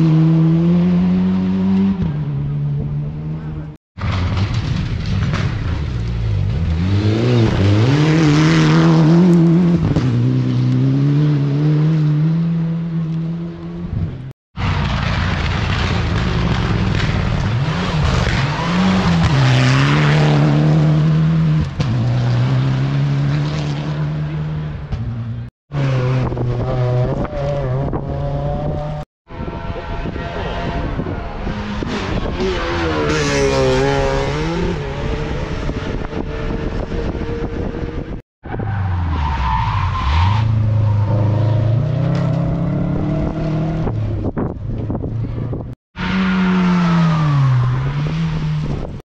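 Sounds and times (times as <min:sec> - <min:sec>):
rally car engine at full throttle: 0:00.0 - 0:49.0.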